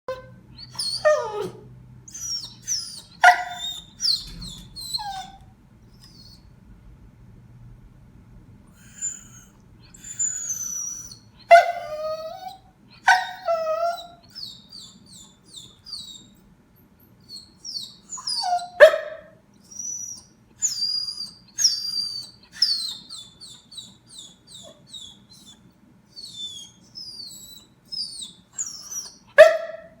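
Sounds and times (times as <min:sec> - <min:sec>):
puppy yelping: 0:00.1 - 0:06.4, 0:08.9 - 0:16.4, 0:17.3 - 0:25.6, 0:26.2 - 0:30.0
puppy whining: 0:00.1 - 0:06.5, 0:08.8 - 0:16.4, 0:17.0 - 0:30.0.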